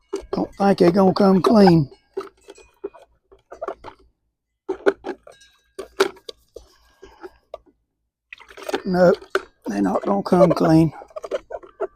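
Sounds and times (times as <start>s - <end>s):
scrubbing: 0.0s - 4.0s, 4.6s - 7.7s, 8.3s - 11.9s
bird feeders knocking and clinking: 0.0s - 7.7s, 8.4s - 11.9s.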